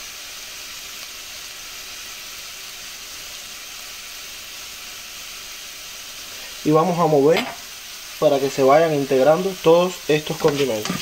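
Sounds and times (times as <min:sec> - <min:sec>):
meat and vegetables sizzling in oil: 0:00.0 - 0:11.0.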